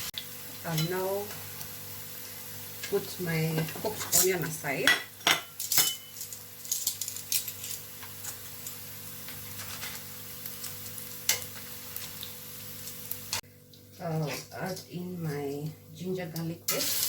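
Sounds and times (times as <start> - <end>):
oil sizzling in a pan: 0.0 - 17.0.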